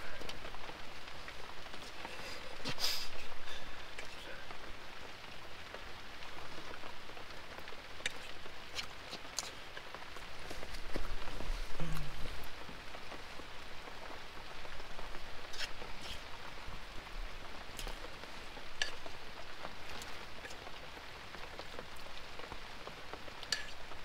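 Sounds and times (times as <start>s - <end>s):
rain on tent fabric: 0.0s - 24.0s.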